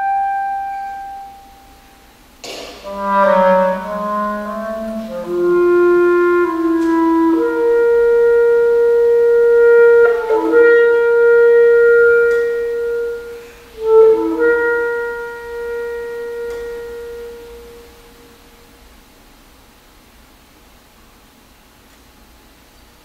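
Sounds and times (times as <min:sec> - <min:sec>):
clarinet sustained notes: 0:00.0 - 0:18.8.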